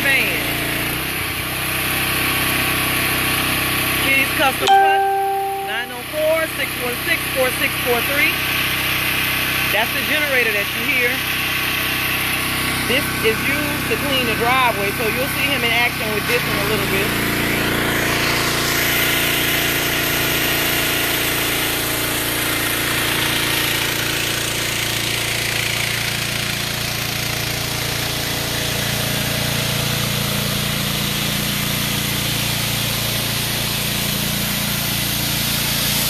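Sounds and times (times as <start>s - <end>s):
generator engine running: 0.0s - 36.0s.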